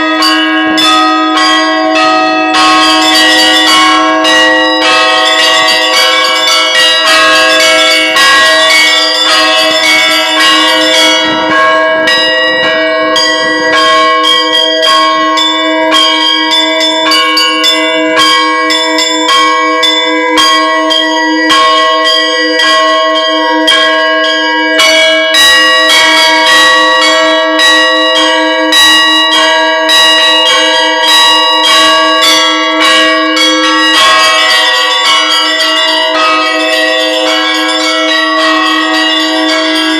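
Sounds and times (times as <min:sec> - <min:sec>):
bells ringing rapidly: 0:00.0 - 0:39.9.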